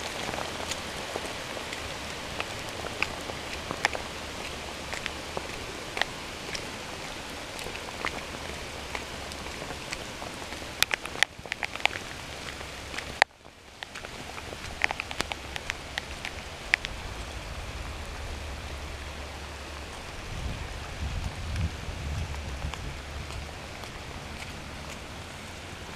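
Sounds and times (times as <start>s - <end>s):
rain falling: 0.0s - 25.9s.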